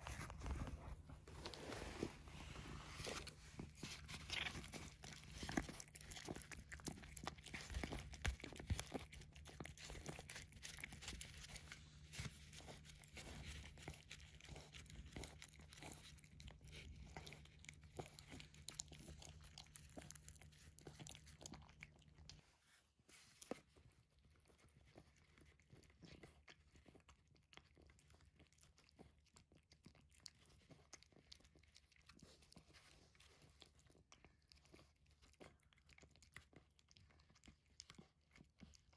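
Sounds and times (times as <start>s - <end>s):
cat chewing and lapping: 0.0s - 38.9s.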